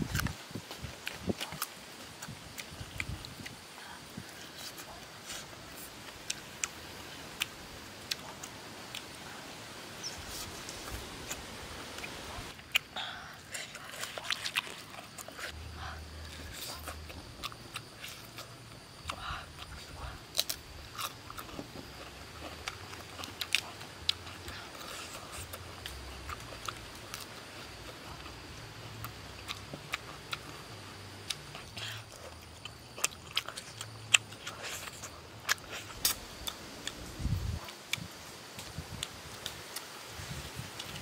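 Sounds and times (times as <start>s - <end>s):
person chewing food: 0.1s - 3.7s, 4.5s - 9.2s, 10.3s - 38.1s.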